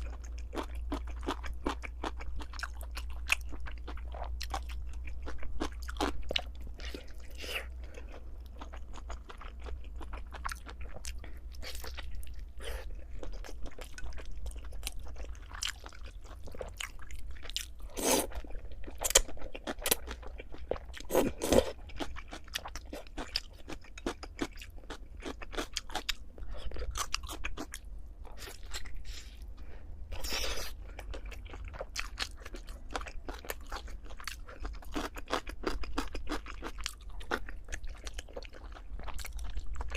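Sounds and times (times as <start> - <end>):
low steady hum: 0.0 - 39.9
person chewing: 0.0 - 39.9.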